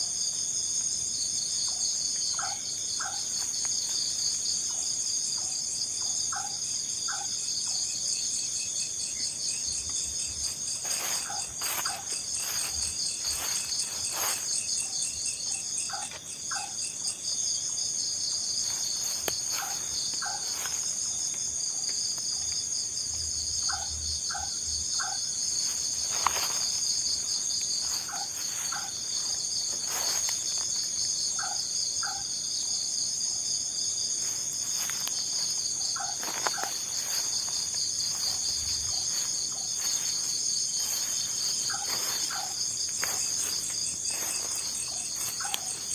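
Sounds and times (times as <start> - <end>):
crickets chirping: 0.0 - 45.9
short repeated insect calls: 0.0 - 45.9.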